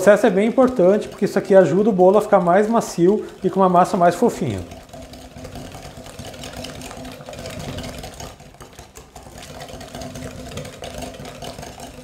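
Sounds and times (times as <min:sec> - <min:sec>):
whisk clicking against glass bowl: 0:00.0 - 0:12.0.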